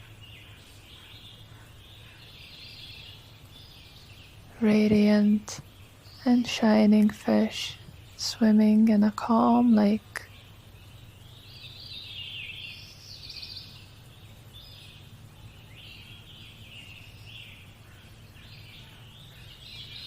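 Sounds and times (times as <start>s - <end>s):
faint low hum: 0.0s - 20.0s
small birds chirping: 0.0s - 20.0s.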